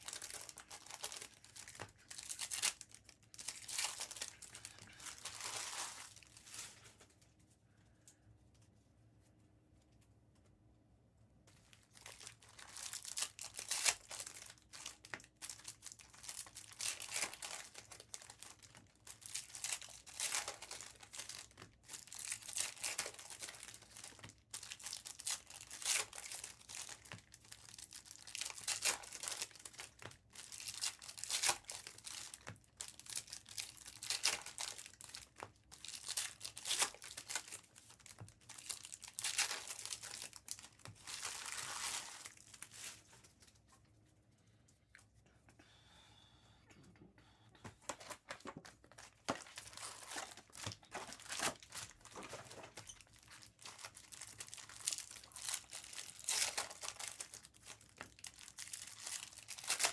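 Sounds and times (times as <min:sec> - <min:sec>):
card pack wrappers crinkling: 0:00.0 - 0:07.2, 0:11.5 - 0:43.6, 0:47.9 - 0:59.9.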